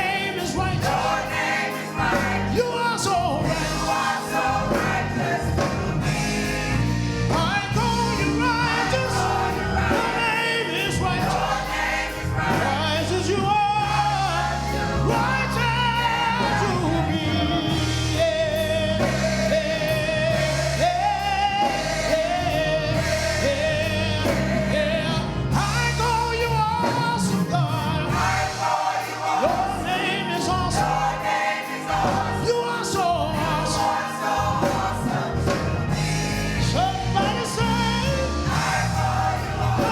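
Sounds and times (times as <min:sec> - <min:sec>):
bass: 0:00.0 - 0:28.7, 0:29.4 - 0:39.9
drums: 0:00.0 - 0:39.9
gospel choir singing: 0:00.0 - 0:39.9
keyboard: 0:00.0 - 0:39.9.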